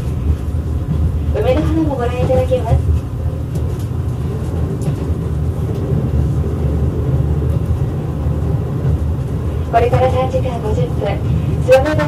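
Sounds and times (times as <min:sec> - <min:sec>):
electric train rumble inside car: 0:00.0 - 0:12.0.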